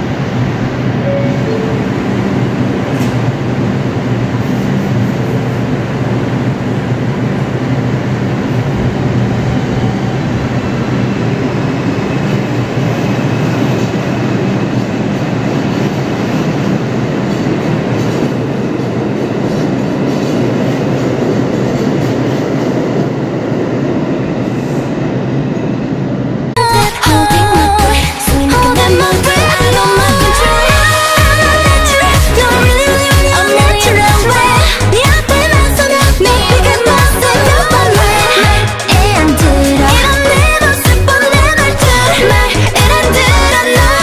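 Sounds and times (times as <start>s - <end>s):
subway train wheels and motors: 0.0s - 44.0s.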